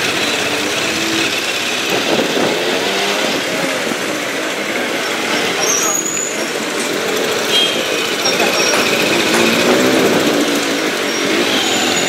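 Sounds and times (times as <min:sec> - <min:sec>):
motorbike and scooter traffic: 0:00.0 - 0:12.0
small motorcycle running: 0:00.0 - 0:12.0.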